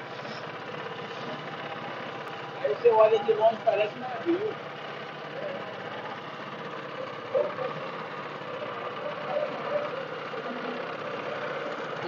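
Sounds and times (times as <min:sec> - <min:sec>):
boat motor chugging: 0:00.0 - 0:12.0.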